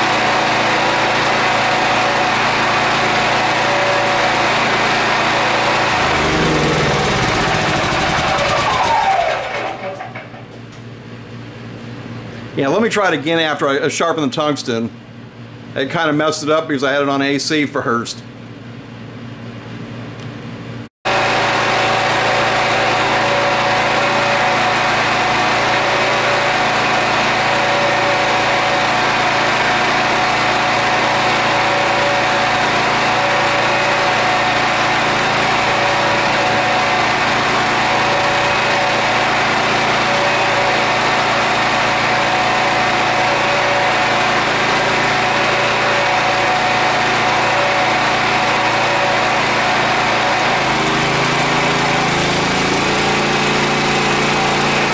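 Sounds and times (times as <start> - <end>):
generator engine drone: 0.0 - 10.5, 21.1 - 54.9.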